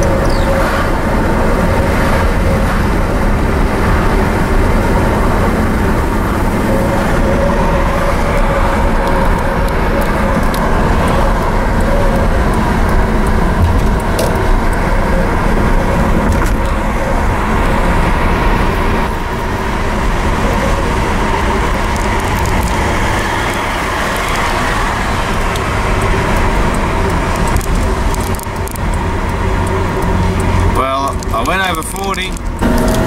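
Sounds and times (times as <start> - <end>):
car engine drone from inside: 0.0 - 33.0.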